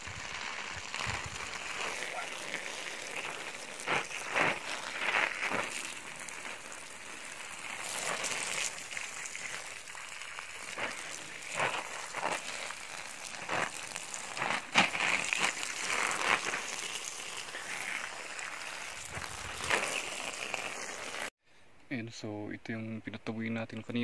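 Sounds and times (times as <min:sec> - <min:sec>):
hose water splashing on leaves: 0:00.0 - 0:21.3.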